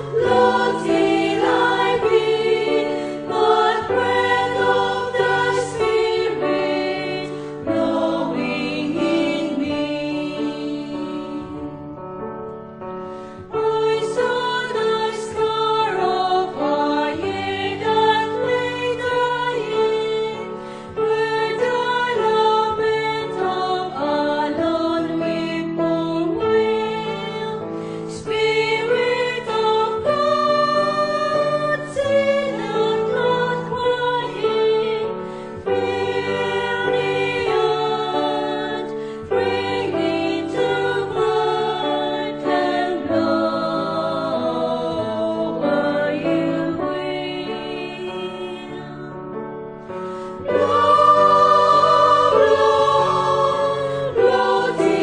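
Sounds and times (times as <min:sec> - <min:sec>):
choir singing a hymn: 0:00.0 - 0:12.3, 0:13.1 - 0:55.0.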